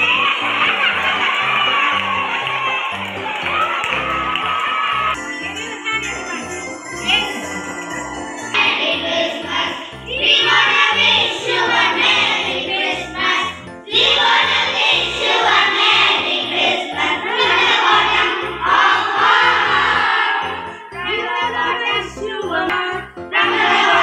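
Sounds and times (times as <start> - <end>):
children's choir singing: 0.0 - 5.2, 7.0 - 24.0.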